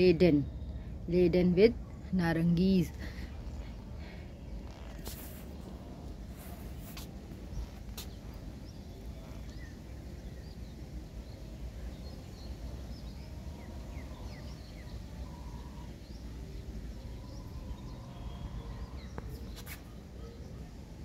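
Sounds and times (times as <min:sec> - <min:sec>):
faint bird chirps: 0:03.0 - 0:20.8.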